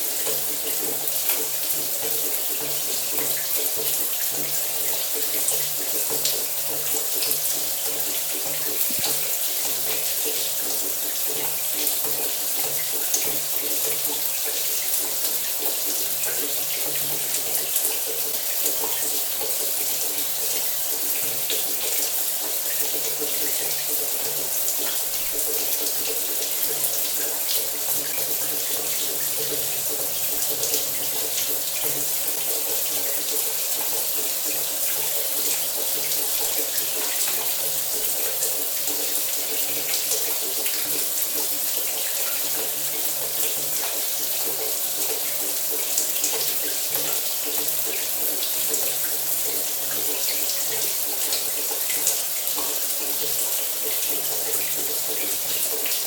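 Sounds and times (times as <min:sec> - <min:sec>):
shower water running: 0:00.0 - 0:56.0.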